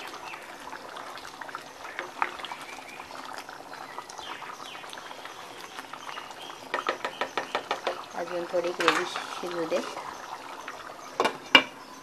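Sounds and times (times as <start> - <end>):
ladle stirring: 0.0 - 11.8
thick gravy bubbling: 0.0 - 12.0.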